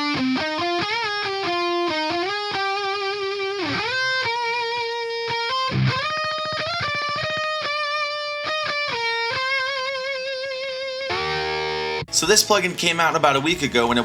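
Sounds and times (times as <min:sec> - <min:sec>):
distorted electric guitar lead: 0:00.0 - 0:12.7.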